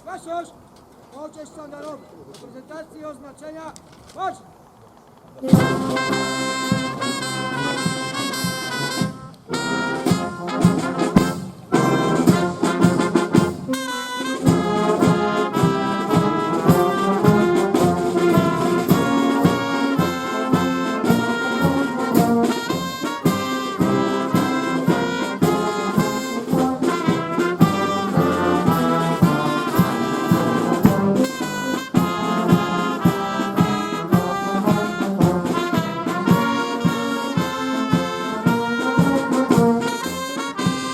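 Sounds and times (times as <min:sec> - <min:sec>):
brass band playing: 0:05.4 - 0:40.9.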